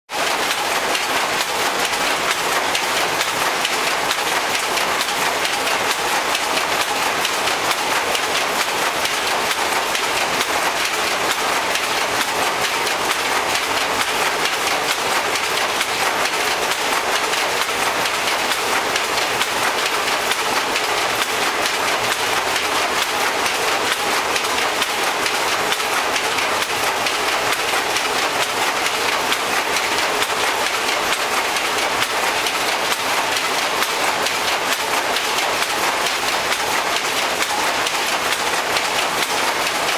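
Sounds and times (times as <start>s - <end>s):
loom clattering: 0.2s - 39.9s.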